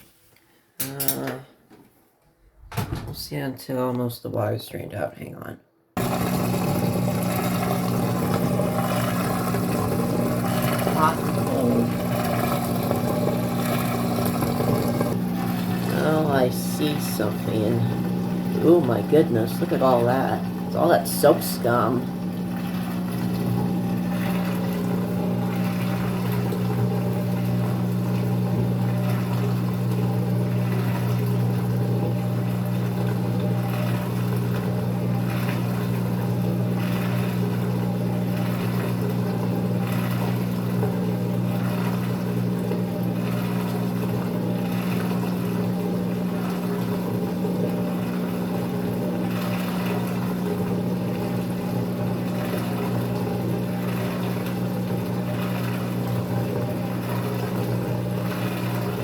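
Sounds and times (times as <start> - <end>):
washer drain pump humming: 6.0 - 59.0.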